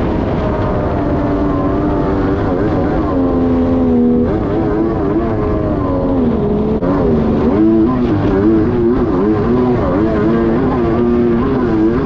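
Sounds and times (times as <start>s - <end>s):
jet ski engine revving: 0.0s - 12.0s.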